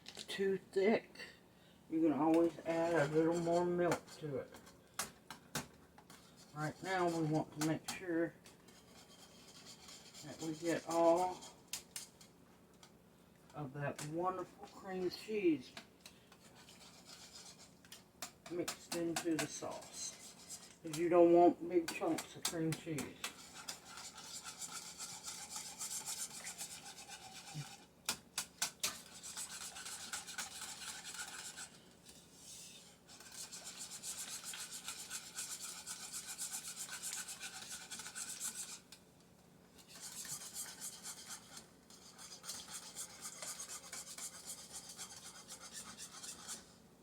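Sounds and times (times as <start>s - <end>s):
utensil scraping a pot: 2.0s - 12.9s, 13.5s - 39.0s, 39.7s - 46.8s.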